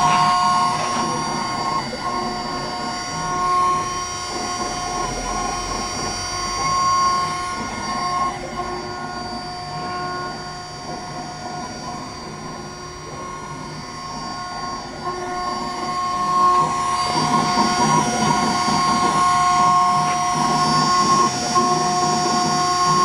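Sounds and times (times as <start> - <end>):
cnc router whine: 0.0 - 23.0.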